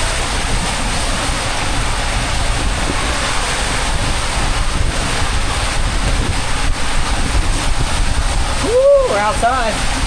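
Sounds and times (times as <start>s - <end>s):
water rushing along a flume: 0.0s - 10.0s
wind buffeting microphone: 0.0s - 10.0s.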